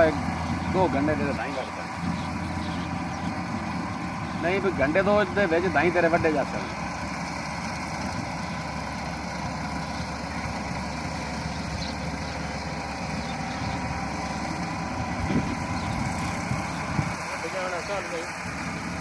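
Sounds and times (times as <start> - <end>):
combine harvester engine running: 0.0 - 19.0.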